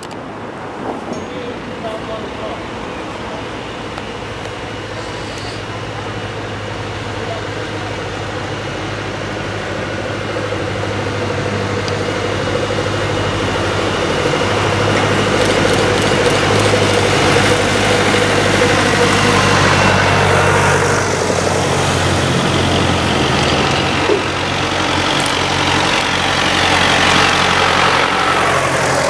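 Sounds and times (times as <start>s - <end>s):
tractor engines running: 0.0s - 29.0s.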